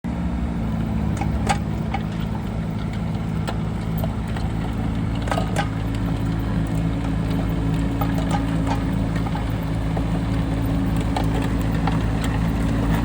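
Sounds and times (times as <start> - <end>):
mini excavator diesel engine running: 0.0 - 13.0
metallic clanks: 1.0 - 13.0.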